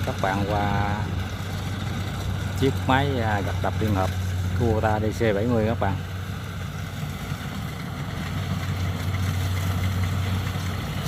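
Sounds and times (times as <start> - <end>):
diesel engine humming: 0.0 - 11.0.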